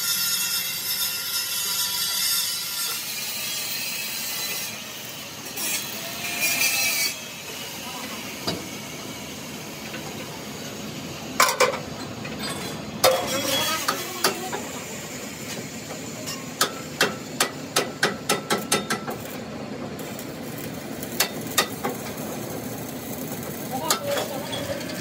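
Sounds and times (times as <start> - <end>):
workshop hum: 0.0 - 25.0.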